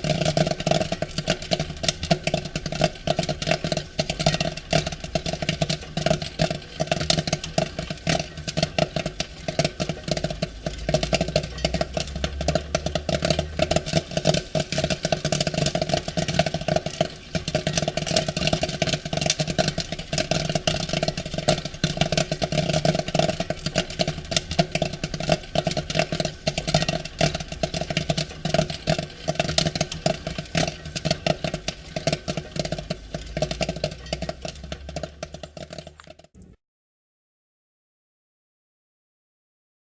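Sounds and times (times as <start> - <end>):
popcorn popping: 0.0 - 36.6.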